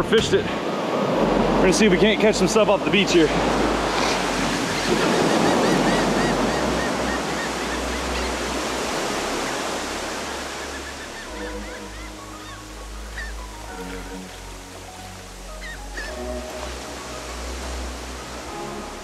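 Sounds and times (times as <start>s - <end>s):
ocean surf breaking: 0.0s - 19.0s
music with held notes: 3.8s - 19.0s.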